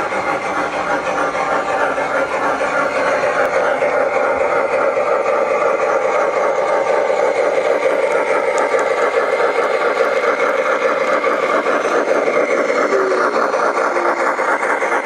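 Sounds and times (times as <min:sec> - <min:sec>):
model train rattle and whir: 0:00.0 - 0:15.0.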